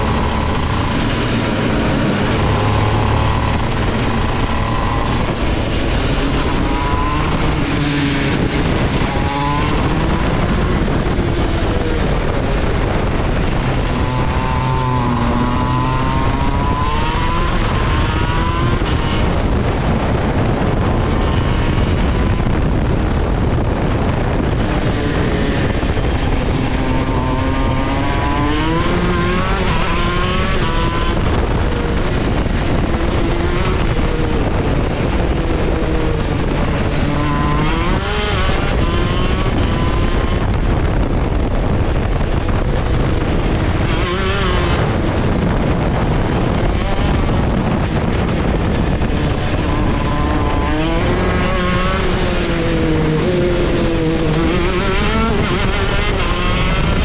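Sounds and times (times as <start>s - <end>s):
go-kart engine revving: 0.0s - 57.0s
wind noise: 0.0s - 57.0s.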